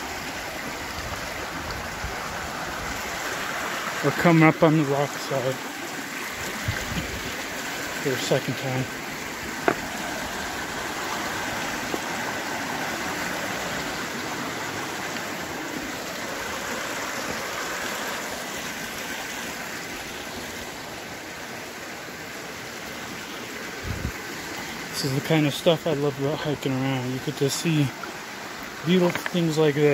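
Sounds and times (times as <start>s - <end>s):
creek splashing over rocks: 0.0s - 29.9s.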